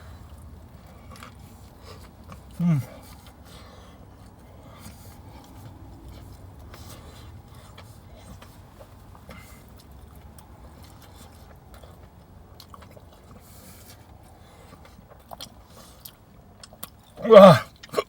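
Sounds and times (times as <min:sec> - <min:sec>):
low steady rumble: 0:00.0 - 0:17.9
person chewing food: 0:00.0 - 0:18.0.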